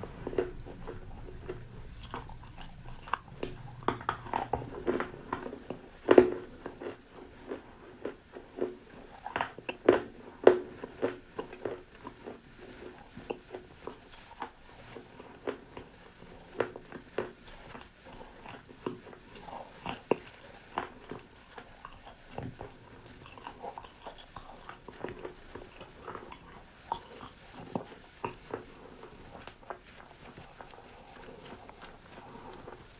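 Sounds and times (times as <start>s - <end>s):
chewing crunchy food: 0.0s - 32.9s.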